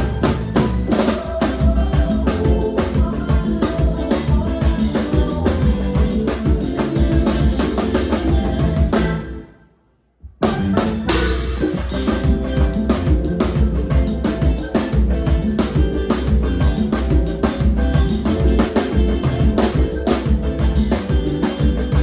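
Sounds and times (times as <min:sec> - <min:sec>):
live band playing: 0:00.0 - 0:09.6, 0:10.3 - 0:22.0.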